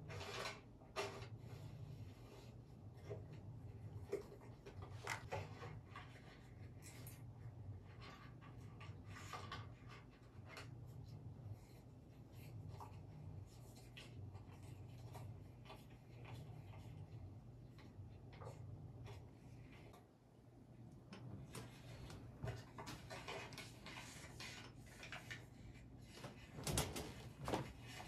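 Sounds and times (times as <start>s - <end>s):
low steady hum: 0.0s - 28.0s
scratching and rustling of handling: 0.0s - 28.0s.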